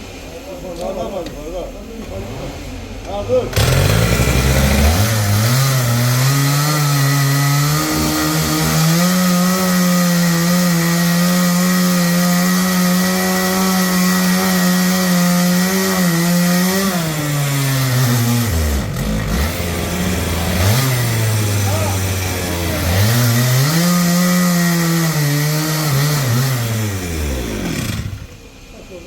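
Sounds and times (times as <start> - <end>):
chainsaw revving: 3.4 - 28.6.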